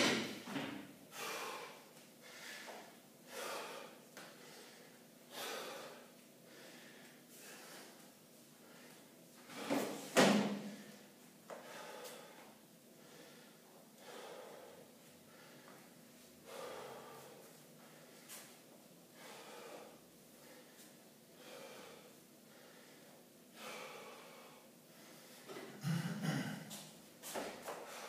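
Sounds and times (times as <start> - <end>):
man breathing hard: 1.1 - 10.0, 10.6 - 26.8, 27.7 - 28.0.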